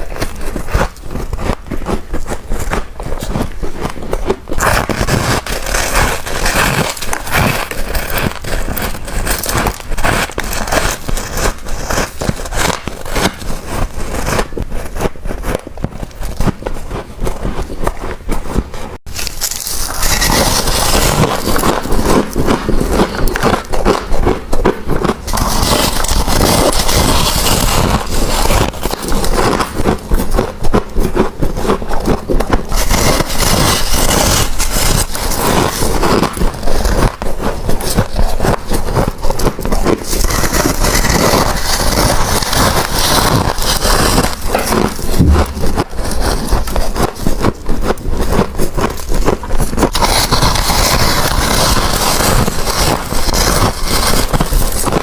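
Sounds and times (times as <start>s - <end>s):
chewing crunchy frost: 0.0s - 55.0s.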